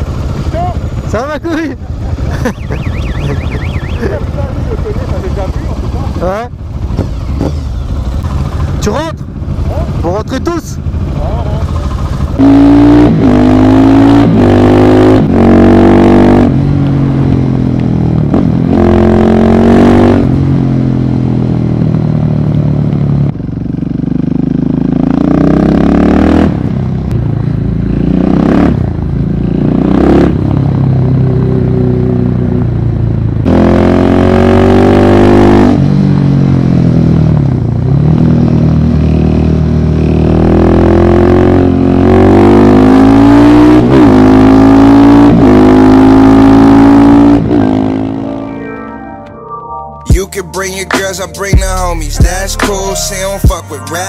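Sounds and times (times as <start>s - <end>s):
motorcycle engine revving: 0.0s - 48.4s.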